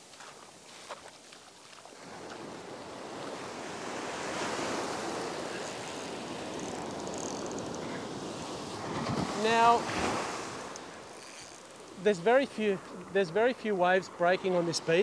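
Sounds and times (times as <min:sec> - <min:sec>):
surf washing up beach: 0:00.0 - 0:15.0.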